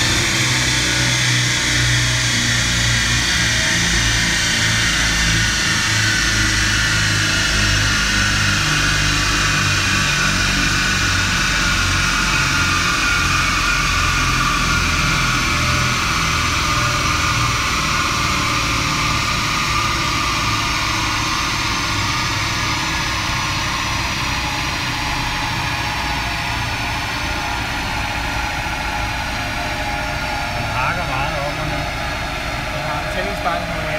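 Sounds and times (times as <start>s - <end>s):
car engine idling: 0.0s - 33.9s
high whine: 0.0s - 33.9s.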